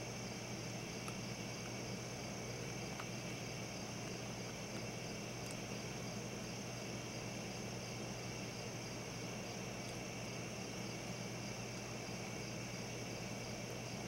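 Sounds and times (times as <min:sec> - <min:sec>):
constant hiss: 0:00.0 - 0:14.0
night insects chorus: 0:00.0 - 0:14.0.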